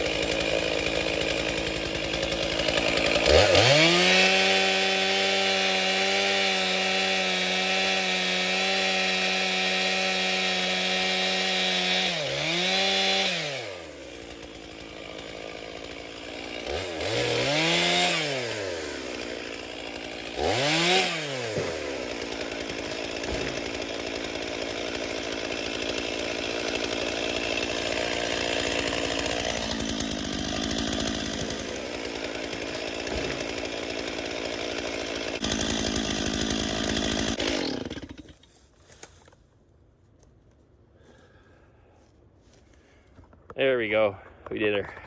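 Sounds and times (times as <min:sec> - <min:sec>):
chainsaw cutting wood: 0:00.0 - 0:39.4.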